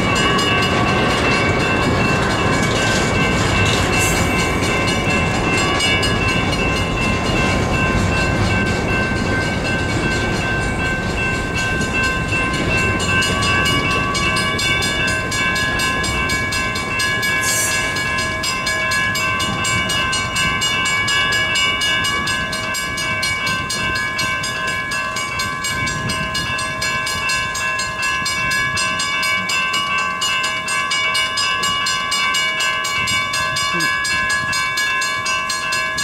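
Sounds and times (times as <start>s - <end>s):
crossing bell ringing: 0.0s - 36.0s
train wheels rumbling and clacking: 0.0s - 36.0s.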